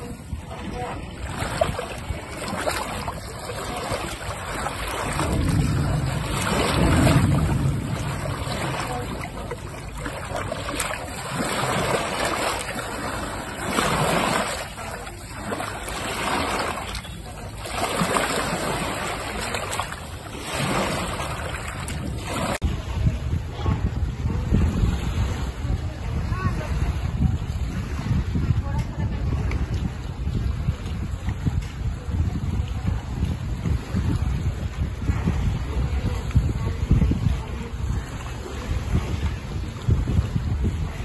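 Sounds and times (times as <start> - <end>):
waves breaking at shoreline: 0.0 - 32.0, 32.6 - 41.0
wind rumbling on microphone: 0.0 - 41.0.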